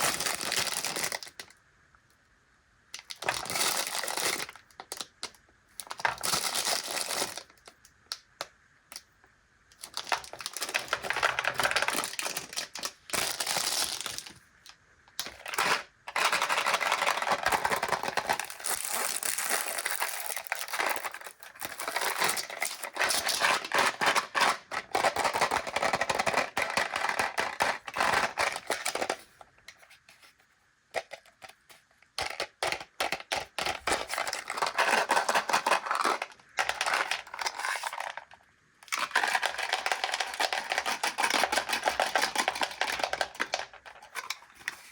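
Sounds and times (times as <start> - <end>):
packaging crinkling and tearing: 0.0 - 1.5, 3.0 - 7.7, 9.8 - 14.4, 15.2 - 29.2, 33.0 - 38.3, 38.9 - 44.9.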